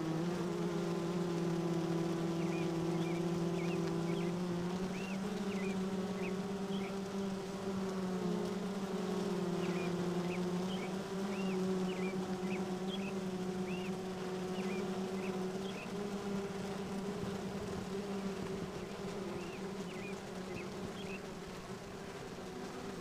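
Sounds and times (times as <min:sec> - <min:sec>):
bees humming: 0:00.0 - 0:23.0.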